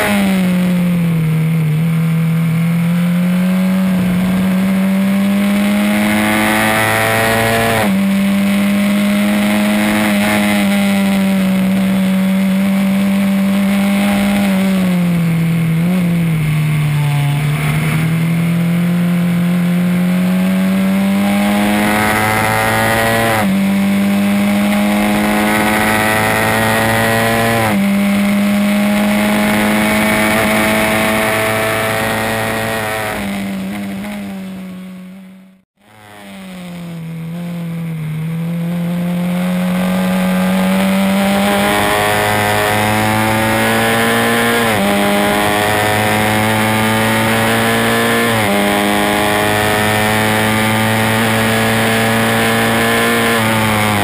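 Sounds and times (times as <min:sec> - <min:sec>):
racing car engine at full throttle: 0:00.0 - 0:54.0.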